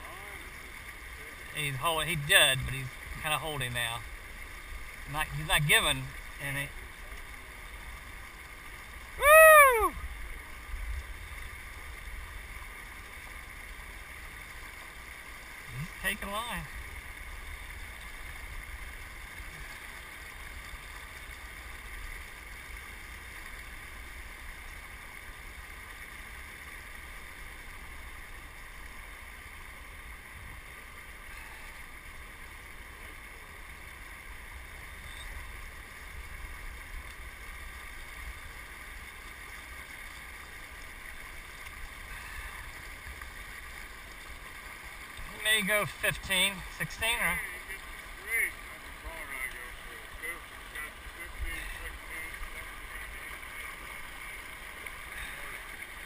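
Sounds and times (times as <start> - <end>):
river rushing over riffle: 0.0 - 56.0.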